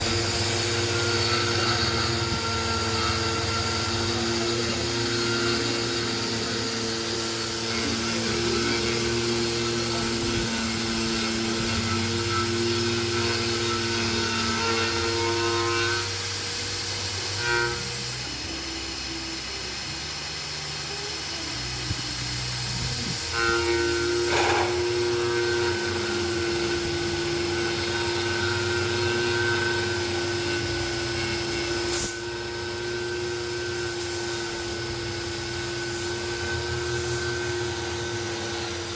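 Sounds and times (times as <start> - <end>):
machine tool whining: 0.0 - 38.9.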